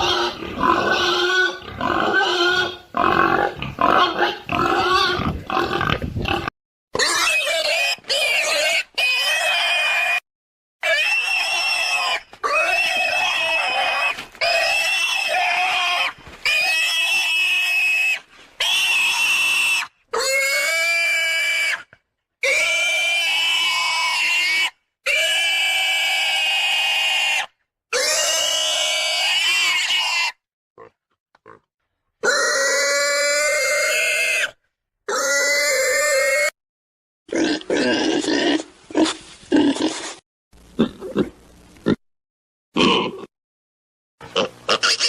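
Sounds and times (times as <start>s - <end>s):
pig calling: 0.0s - 10.2s, 10.8s - 36.5s, 42.8s - 43.3s, 44.2s - 45.0s.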